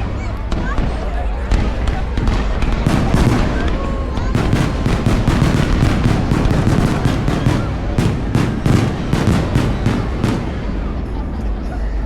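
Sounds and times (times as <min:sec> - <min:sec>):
fireworks bangs: 0:01.5 - 0:11.5.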